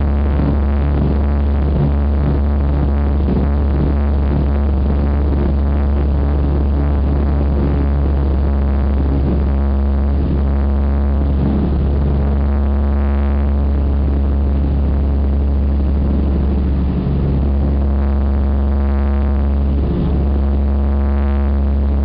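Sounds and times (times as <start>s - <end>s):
propeller engines droning: 0.0s - 22.0s.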